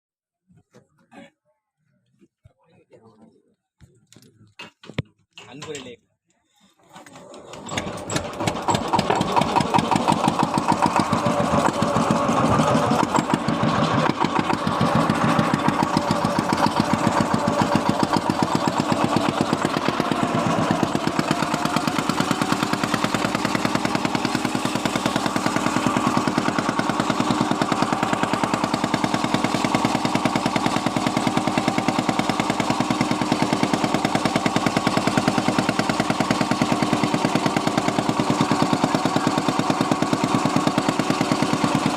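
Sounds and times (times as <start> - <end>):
boat engine chugging: 7.4 - 41.9.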